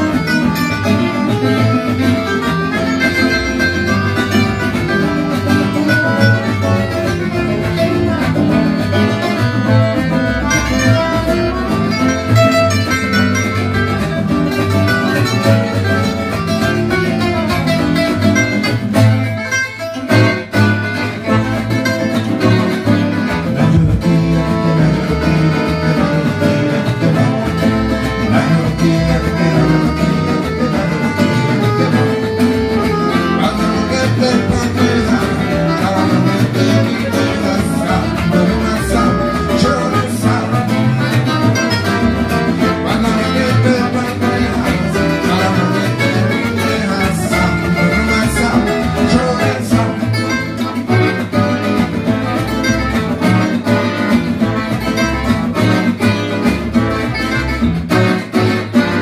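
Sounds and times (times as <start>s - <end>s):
accordion: 0.0s - 59.0s
acoustic guitar lead: 0.0s - 59.0s
rhythm guitars: 0.0s - 59.0s
upright double bass: 0.0s - 59.0s.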